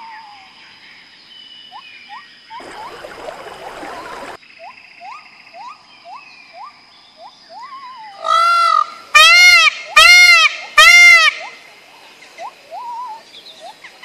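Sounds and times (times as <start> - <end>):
faint high insect tone: 0.0 - 14.0.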